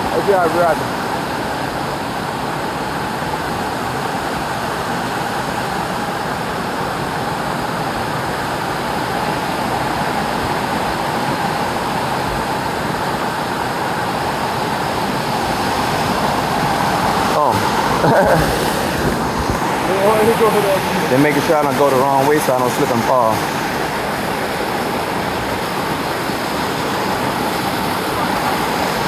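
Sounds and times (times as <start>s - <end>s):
waterfall and river rushing: 0.0s - 29.0s.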